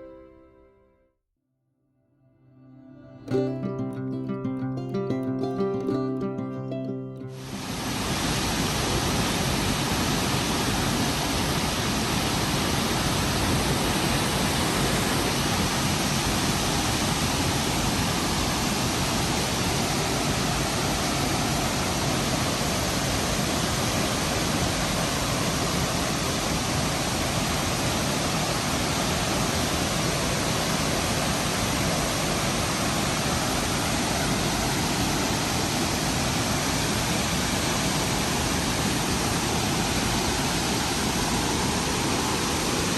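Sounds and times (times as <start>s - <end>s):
rush of falling water: 7.3s - 42.9s.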